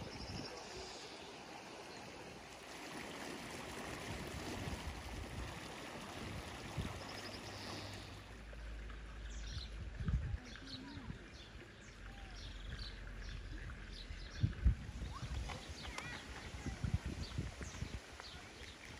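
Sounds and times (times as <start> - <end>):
water running into a pond: 0.0 - 18.9.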